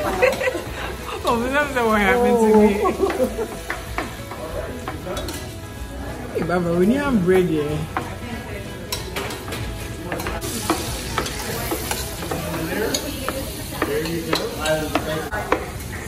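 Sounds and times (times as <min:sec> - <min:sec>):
food frying and sizzling: 0:00.0 - 0:16.0.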